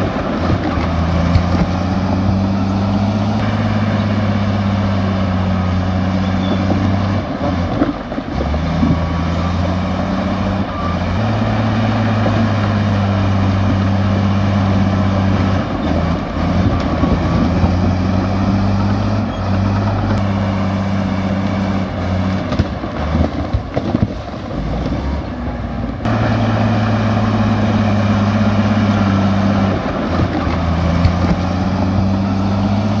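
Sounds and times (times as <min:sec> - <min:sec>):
bulldozer diesel engine droning: 0:00.0 - 0:33.0.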